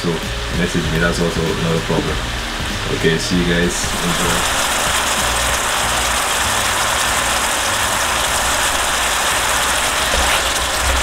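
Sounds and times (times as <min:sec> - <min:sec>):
stew bubbling and sizzling: 0:00.0 - 0:11.0.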